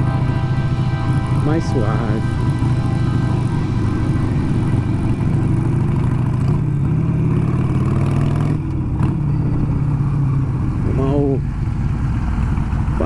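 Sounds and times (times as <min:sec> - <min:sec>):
motorcycle engine rumbling: 0:00.0 - 0:13.0
road noise: 0:00.0 - 0:13.0.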